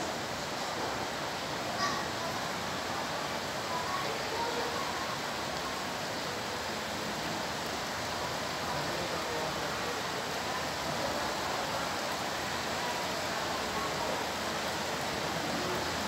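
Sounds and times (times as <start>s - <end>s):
rainstorm rushing: 0.0s - 16.0s.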